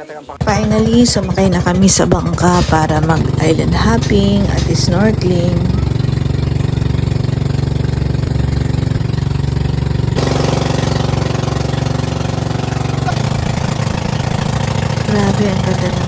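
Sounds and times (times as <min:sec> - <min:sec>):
boat engine running: 0:00.4 - 0:16.0.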